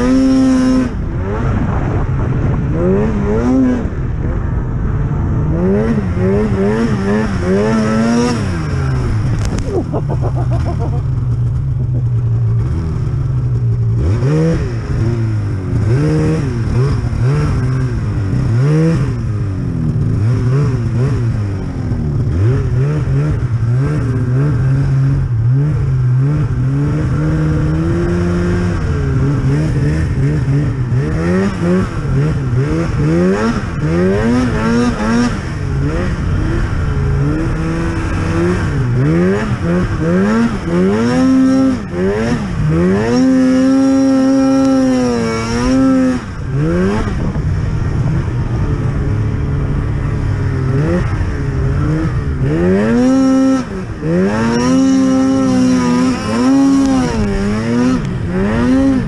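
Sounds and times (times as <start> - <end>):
snowmobile engine revving: 0.0 - 4.1, 5.4 - 59.0.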